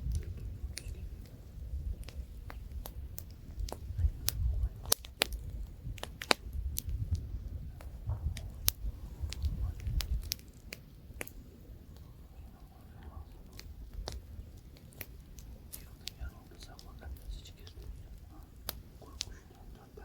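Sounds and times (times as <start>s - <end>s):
campfire crackling and popping: 0.0s - 20.0s
light wind rumble: 0.0s - 20.0s.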